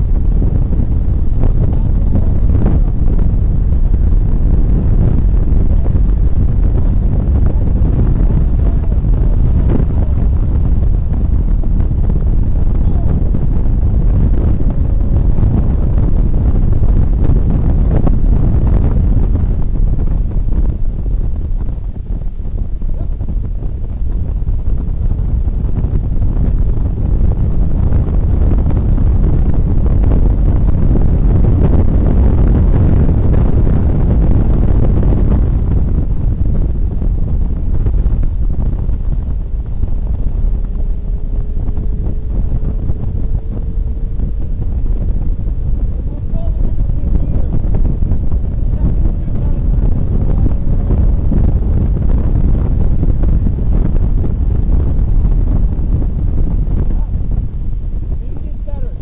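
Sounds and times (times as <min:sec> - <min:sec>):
car engine rumbling: 0:00.0 - 0:59.0
road noise: 0:00.0 - 0:59.0
wind buffeting microphone: 0:00.0 - 0:59.0.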